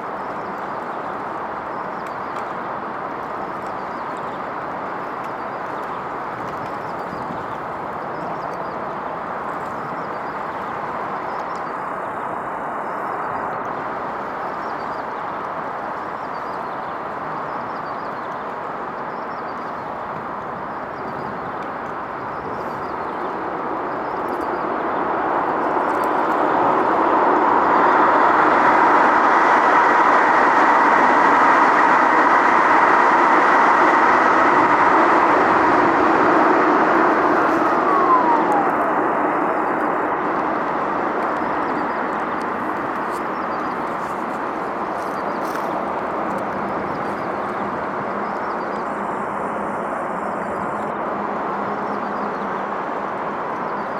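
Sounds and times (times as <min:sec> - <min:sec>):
faint whine: 0:00.0 - 0:19.9, 0:20.5 - 0:53.9
traffic noise: 0:00.0 - 0:53.9
train passing with rumble: 0:00.0 - 0:53.9.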